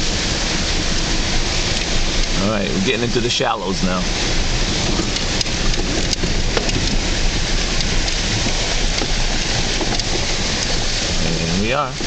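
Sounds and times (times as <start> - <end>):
car driving through water: 0.0 - 12.0
rain: 0.0 - 12.0.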